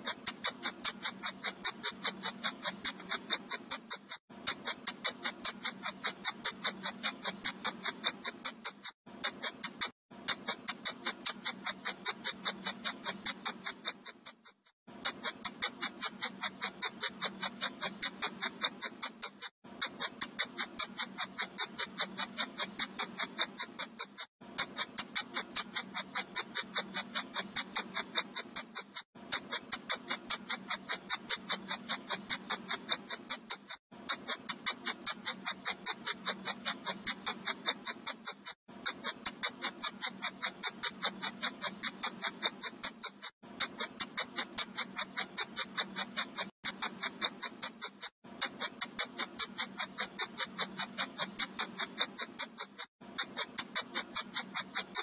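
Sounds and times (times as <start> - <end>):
high-pitched clicking pulses: 0.0 - 55.0.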